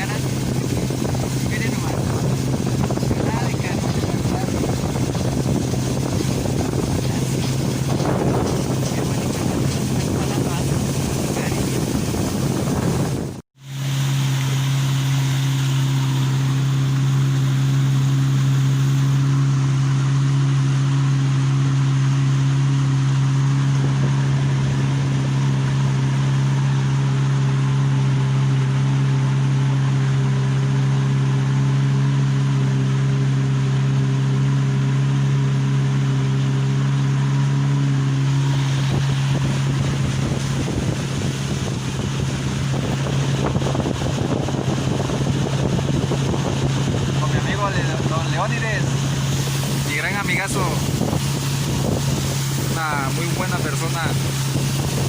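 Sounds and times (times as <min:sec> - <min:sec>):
boat motor running: 0:00.0 - 0:55.0
water noise: 0:00.0 - 0:55.0
wind: 0:00.0 - 0:55.0.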